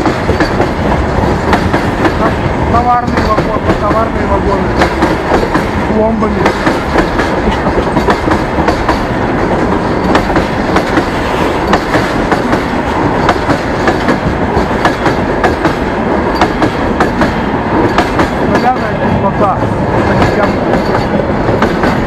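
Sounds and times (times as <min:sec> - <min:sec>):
train wheels clacking on rails: 0:00.0 - 0:22.0.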